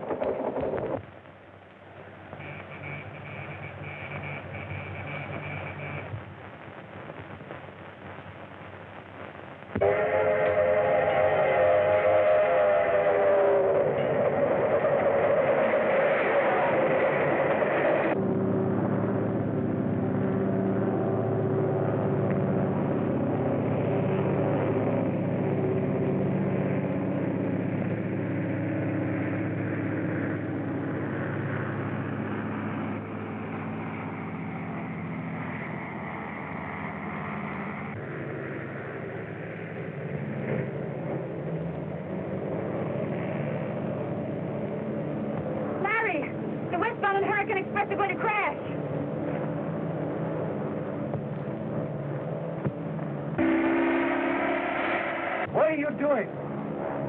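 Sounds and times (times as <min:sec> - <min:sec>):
vehicle engine drone: 0:00.0 - 0:57.0.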